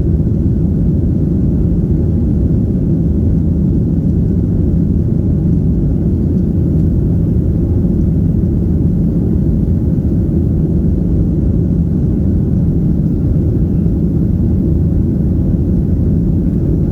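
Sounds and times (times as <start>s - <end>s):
airplane cabin engine rumble: 0.0s - 16.9s.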